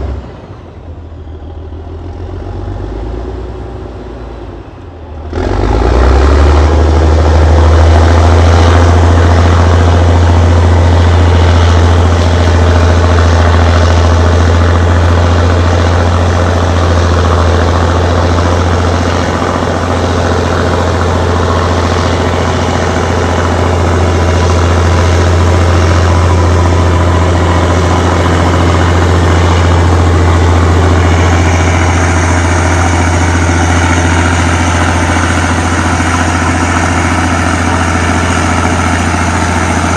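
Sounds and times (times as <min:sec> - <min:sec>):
dozer diesel engine running: 0:00.0 - 0:39.9.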